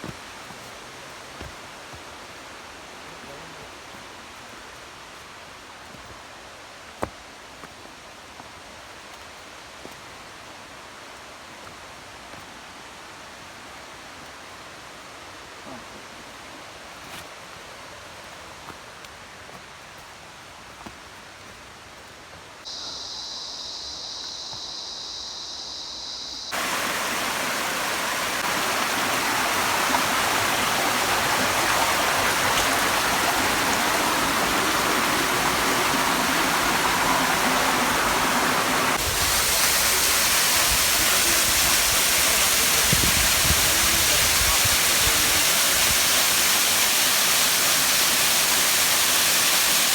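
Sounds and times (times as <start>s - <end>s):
forest ambience: 0.0s - 49.9s
rushing stream water: 0.0s - 49.9s.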